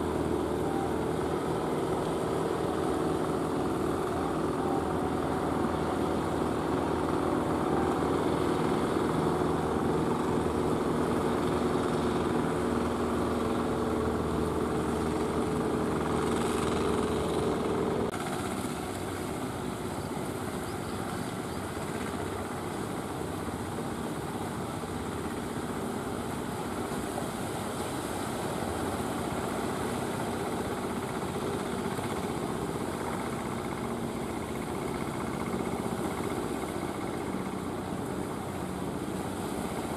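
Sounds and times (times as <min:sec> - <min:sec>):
rough boat engine drone: 0:00.0 - 0:39.9
small boat motor running: 0:00.0 - 0:39.9.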